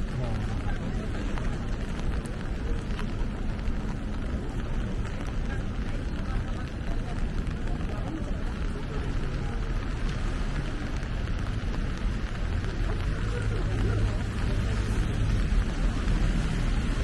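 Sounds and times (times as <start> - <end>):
rain falling: 0.0 - 17.0
street traffic rumble: 0.0 - 17.0.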